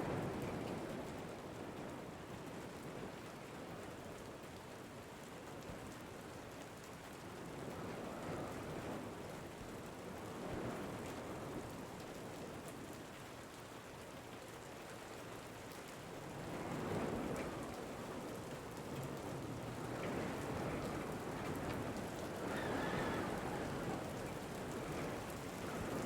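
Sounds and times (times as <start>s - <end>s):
steady rain: 0.0s - 26.0s
wind: 0.0s - 26.0s.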